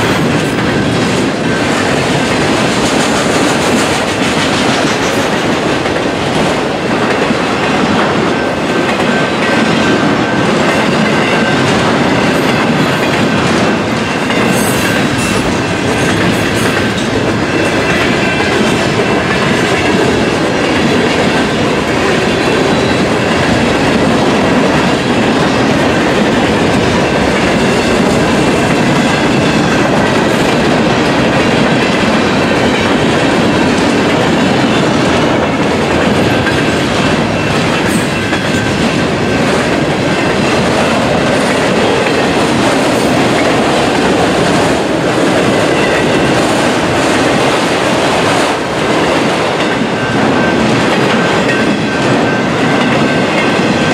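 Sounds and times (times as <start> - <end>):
freight train cars rolling on rails: 0.0 - 53.9.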